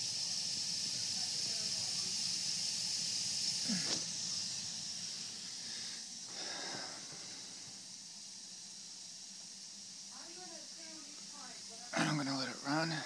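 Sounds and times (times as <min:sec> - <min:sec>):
boiler gas burners hissing: 0:00.0 - 0:13.0.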